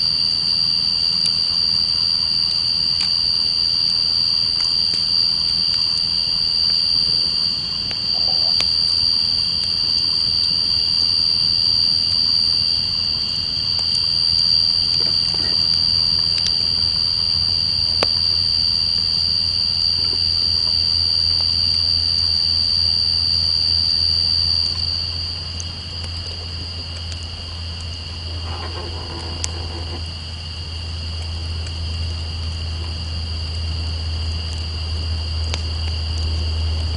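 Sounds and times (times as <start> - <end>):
campfire crackles: 0.0 - 36.9
night insects trilling: 0.0 - 36.9.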